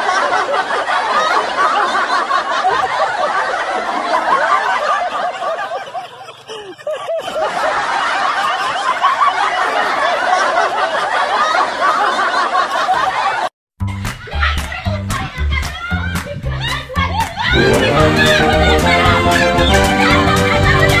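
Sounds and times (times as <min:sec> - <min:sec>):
crowd laughing: 0:00.0 - 0:21.0.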